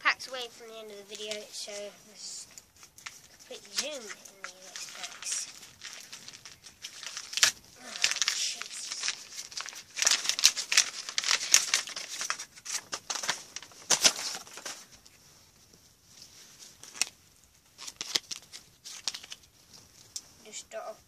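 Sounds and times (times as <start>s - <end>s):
plastic wrapper crinkling and tearing: 1.1s - 15.2s, 16.6s - 20.4s.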